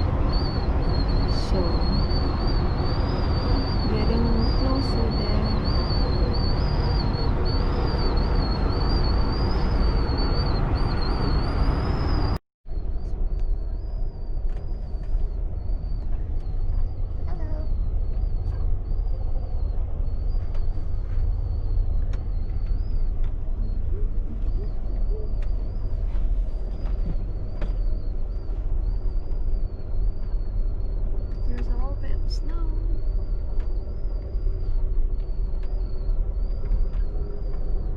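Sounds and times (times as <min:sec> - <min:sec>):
faint high wavering whine: 0:00.0 - 0:37.9
train rumbling on rails: 0:00.0 - 0:37.9.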